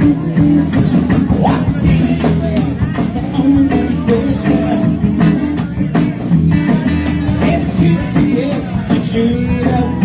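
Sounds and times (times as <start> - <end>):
bass guitar: 0.0 - 10.0
drum kit beat: 0.0 - 10.0
electric guitar: 0.0 - 10.0.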